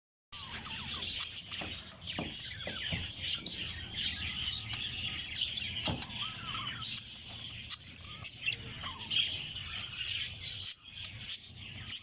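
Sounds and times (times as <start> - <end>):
budgerigars chattering and chirping: 0.4 - 12.0.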